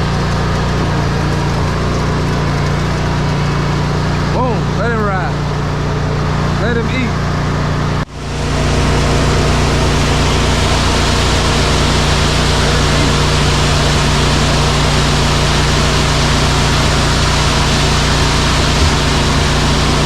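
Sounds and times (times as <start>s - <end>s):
diesel truck engine humming: 0.0s - 20.0s.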